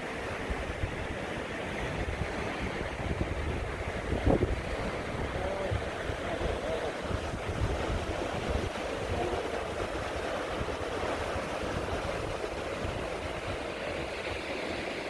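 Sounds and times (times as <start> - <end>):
surf washing over rocks: 0.0 - 15.0
wind buffeting microphone: 0.0 - 15.0.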